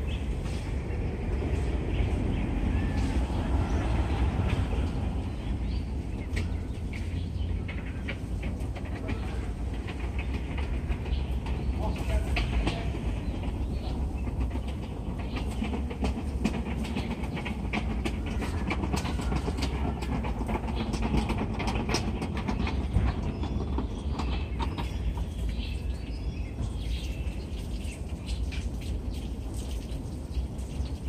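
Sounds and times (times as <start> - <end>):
low rumble: 0.0 - 27.5.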